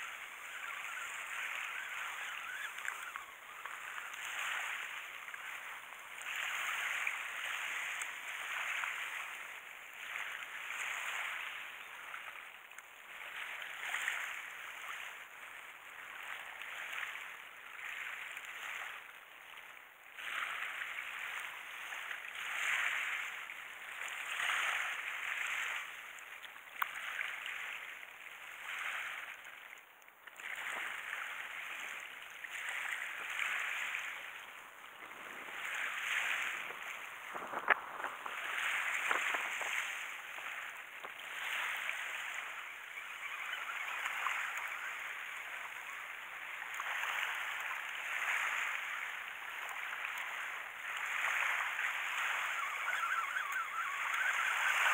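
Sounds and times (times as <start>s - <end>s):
small waves washing onto shore: 0.0s - 54.9s.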